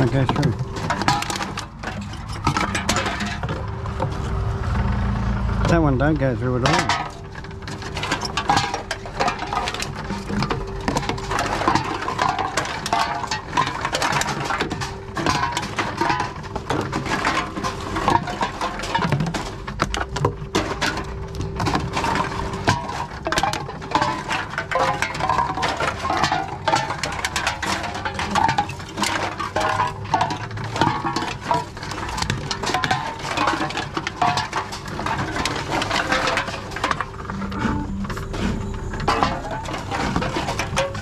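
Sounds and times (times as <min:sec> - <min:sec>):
cans and bottles clattering: 0:00.0 - 0:41.0
steady low machine hum: 0:00.0 - 0:41.0.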